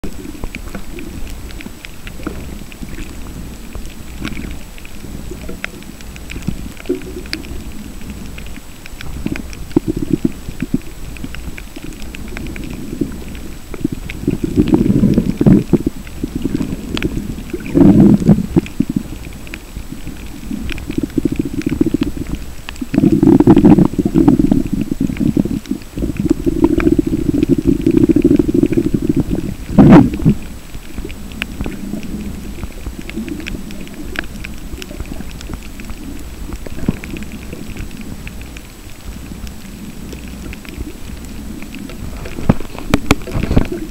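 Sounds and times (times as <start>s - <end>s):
sharp clicks underwater: 0.0s - 43.9s
underwater water rumbling: 0.0s - 43.9s.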